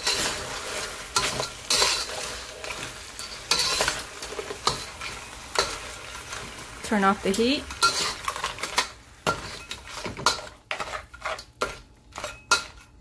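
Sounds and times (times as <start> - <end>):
frying sizzle: 0.0 - 13.0
metal spatula scraping wok: 0.0 - 13.0.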